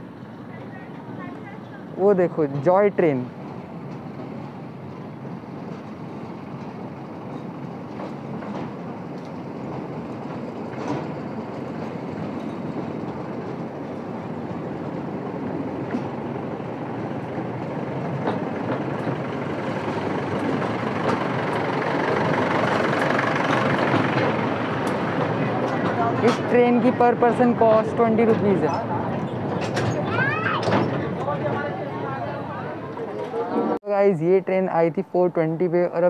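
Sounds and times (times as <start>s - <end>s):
miniature train running on track: 0.0s - 32.5s.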